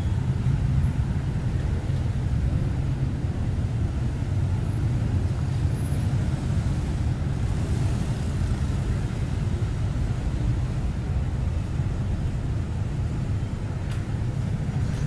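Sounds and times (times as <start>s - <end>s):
low rumble of passing traffic: 0.0s - 15.0s.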